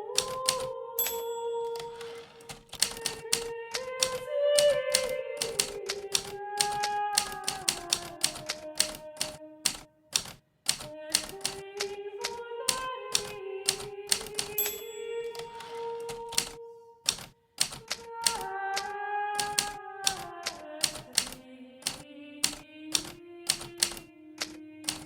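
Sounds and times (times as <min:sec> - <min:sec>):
typewriter keys clacking: 0:00.1 - 0:25.0.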